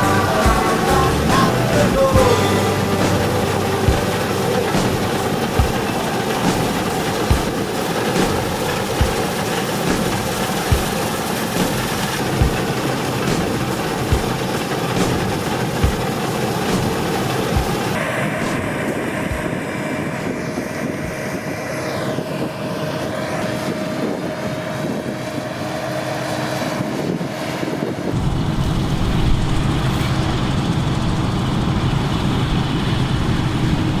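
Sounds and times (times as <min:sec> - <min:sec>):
combine harvester running: 0:00.0 - 0:34.0
machinery whine: 0:00.0 - 0:34.0.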